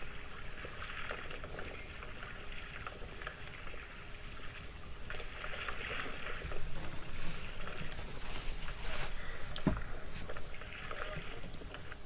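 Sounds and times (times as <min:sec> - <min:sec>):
water rushing along kayak hull: 0:00.0 - 0:12.0.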